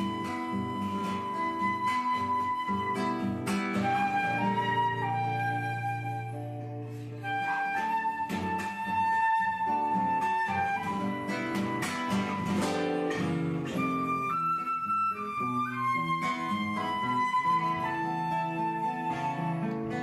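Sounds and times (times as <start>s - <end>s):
held melody notes: 0.0s - 20.0s.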